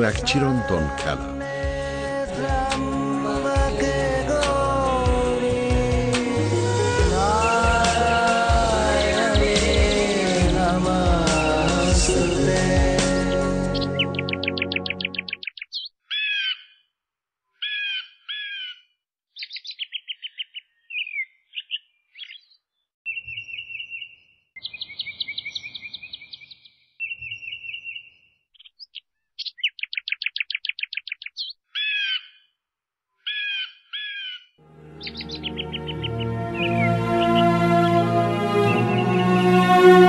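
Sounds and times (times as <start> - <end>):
songbird singing: 0.0 - 16.9, 17.6 - 32.6, 33.2 - 40.0.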